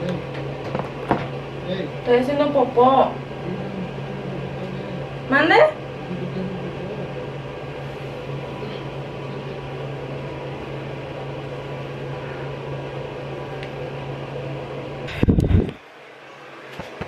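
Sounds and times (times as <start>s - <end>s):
exhaust fan humming: 0.0s - 17.0s.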